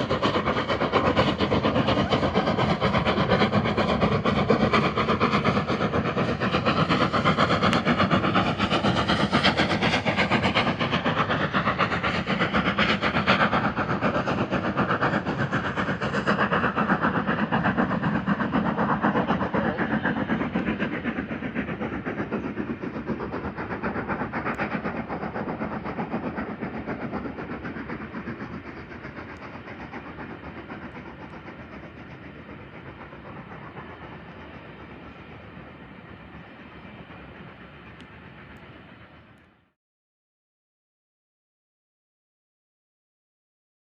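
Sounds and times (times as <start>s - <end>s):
train wheels clattering on rails: 0.0s - 39.5s.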